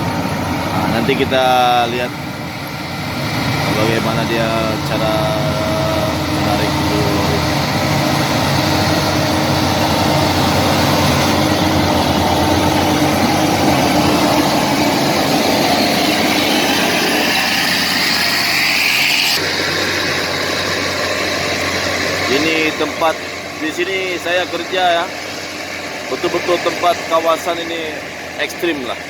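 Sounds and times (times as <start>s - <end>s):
heavy diesel engines running: 0.0s - 29.0s
high whine rising in pitch: 0.0s - 29.0s.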